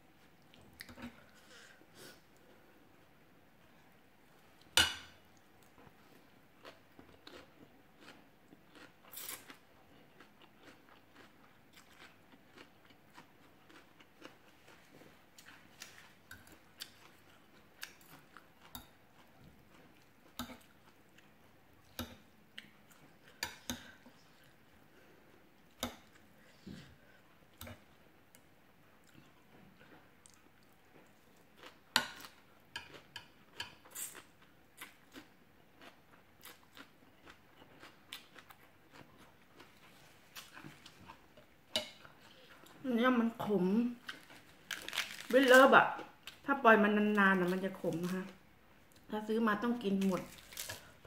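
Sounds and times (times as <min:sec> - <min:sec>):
chewing and crunching: 0:05.6 - 0:42.8, 0:44.0 - 0:46.5, 0:49.8 - 0:51.0.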